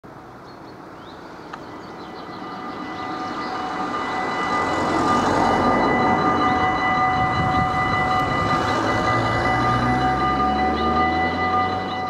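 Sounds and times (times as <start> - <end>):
level crossing warning bells ringing: 1.5 - 12.0.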